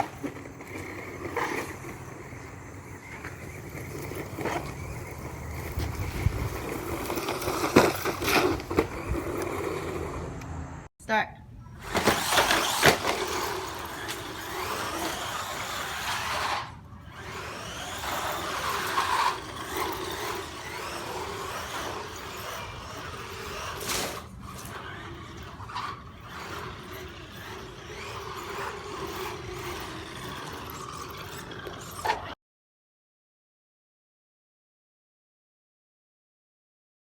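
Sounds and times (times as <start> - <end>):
rc truck motor whining: 0.0 - 10.9, 11.7 - 32.4
tyres and drivetrain noise: 0.0 - 10.9, 11.6 - 32.4.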